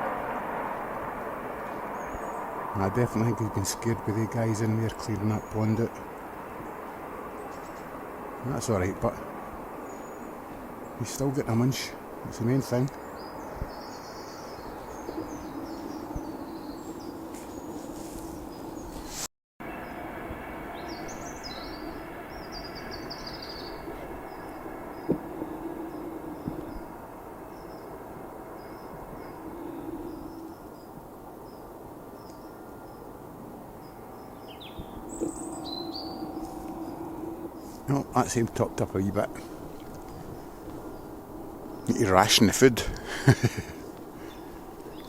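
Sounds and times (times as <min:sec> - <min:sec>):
songbird singing: 0:00.0 - 0:45.0
steady low hum: 0:00.0 - 0:45.0
small birds chirping: 0:01.6 - 0:19.2, 0:20.7 - 0:33.2, 0:33.8 - 0:45.0.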